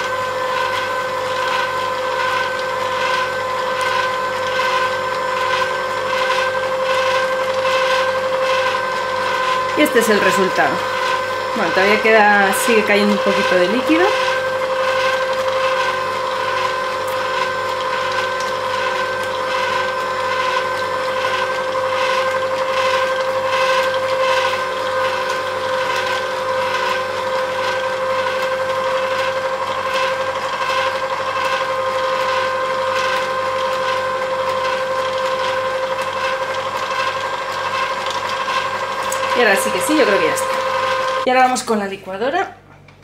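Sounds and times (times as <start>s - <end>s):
juicer motor hum: 0.0s - 41.3s.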